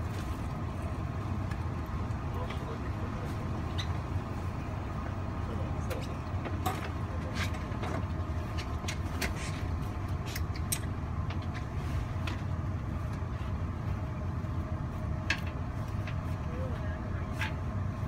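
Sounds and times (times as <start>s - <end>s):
train cabin rumble: 0.0s - 18.0s.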